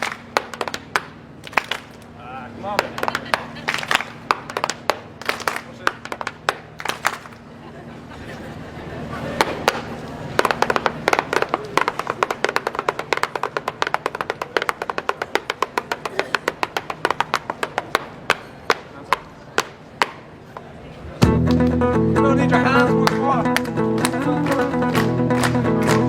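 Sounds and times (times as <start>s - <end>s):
shoes tapping rhythmically: 0.0s - 7.6s, 8.4s - 26.0s.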